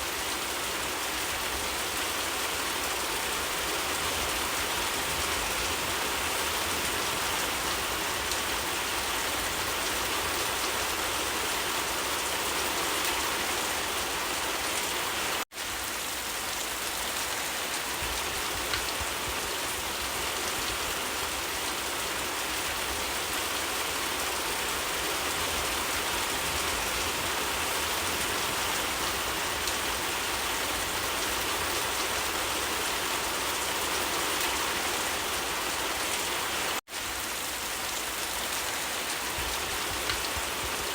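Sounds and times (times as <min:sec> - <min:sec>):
dense rainfall hissing: 0:00.0 - 0:40.9.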